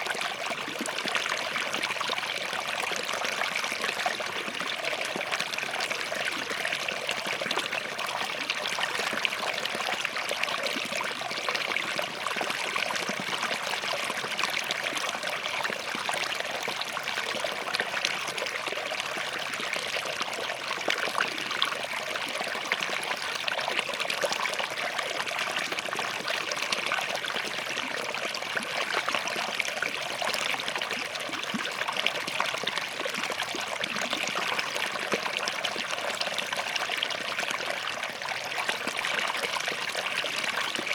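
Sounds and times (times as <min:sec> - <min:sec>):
stream babbling over rocks: 0:00.0 - 0:40.9.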